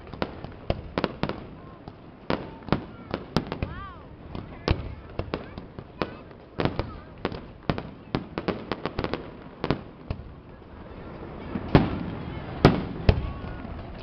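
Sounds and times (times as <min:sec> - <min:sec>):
aerial fireworks exploding: 0:00.0 - 0:14.0.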